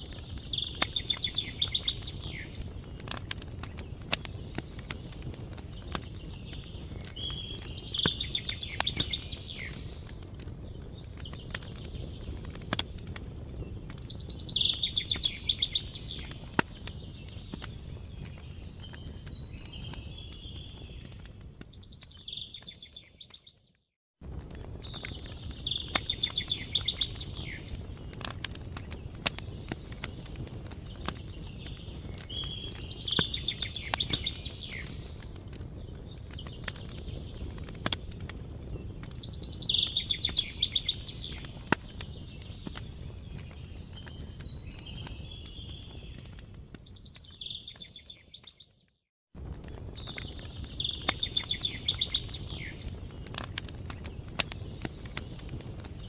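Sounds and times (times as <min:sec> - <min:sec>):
songbird singing trilled phrases: 0:00.0 - 0:10.0, 0:13.6 - 0:21.1, 0:21.7 - 0:23.7, 0:24.8 - 0:35.1, 0:38.7 - 0:48.8, 0:50.0 - 0:55.4
campfire crackling and popping: 0:00.0 - 0:56.0.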